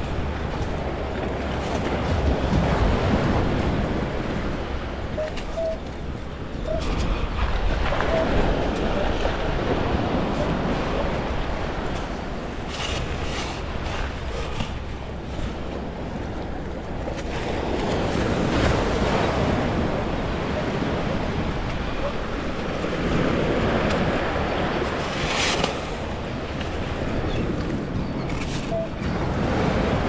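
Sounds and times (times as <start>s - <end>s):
small waves washing: 0.0s - 30.0s
wind on microphone: 0.0s - 30.0s.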